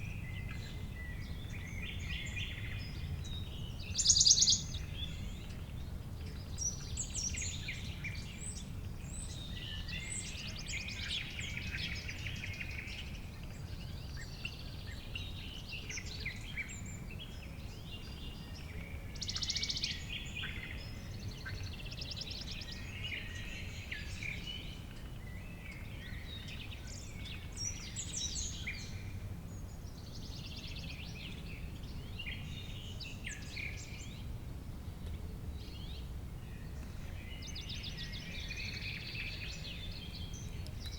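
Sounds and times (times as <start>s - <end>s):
small birds chirping and trilling: 0.0s - 40.9s.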